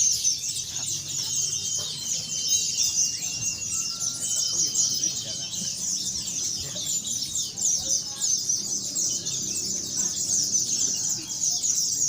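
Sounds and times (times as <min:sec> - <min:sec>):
birds twittering chorus: 0:00.0 - 0:12.0.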